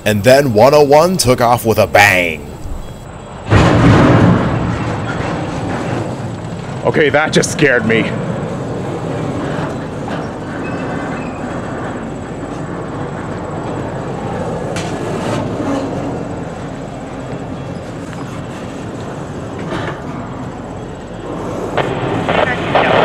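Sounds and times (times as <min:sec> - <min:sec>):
steel wheels rumbling on rail: 0:00.9 - 0:23.0.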